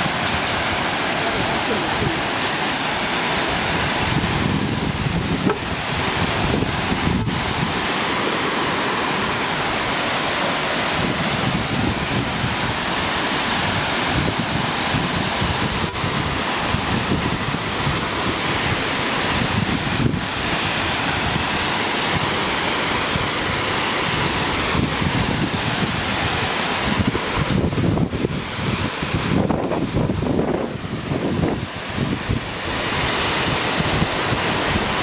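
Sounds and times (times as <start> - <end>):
waterfall roaring: 0.0 - 35.0
wind buffeting microphone: 0.0 - 35.0.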